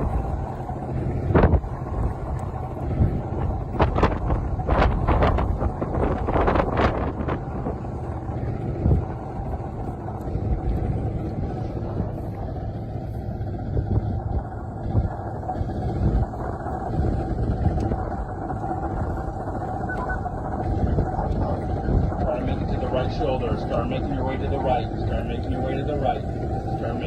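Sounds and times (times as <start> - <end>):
road noise: 0.0 - 27.0
truck engine rumble: 0.0 - 27.0.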